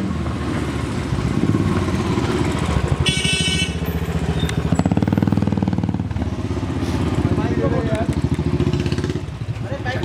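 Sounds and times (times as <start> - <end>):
motorcycle engine at low revs: 0.0 - 3.0, 4.0 - 10.0.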